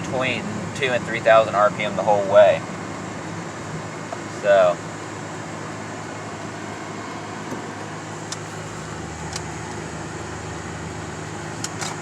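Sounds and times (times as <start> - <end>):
car engine hum: 0.0 - 12.0
lower engine note: 0.0 - 12.0
road noise in cabin: 0.0 - 12.0.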